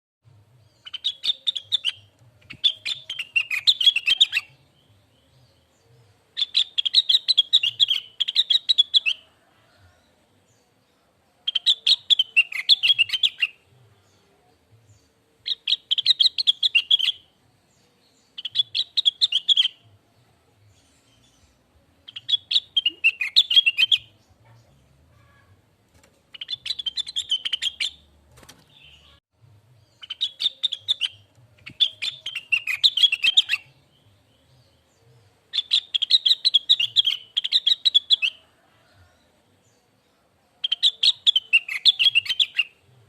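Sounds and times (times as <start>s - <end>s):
bird twittering song: 0.6s - 9.4s, 10.5s - 19.9s, 20.6s - 25.5s, 26.3s - 29.2s, 29.8s - 38.5s, 39.7s - 42.8s.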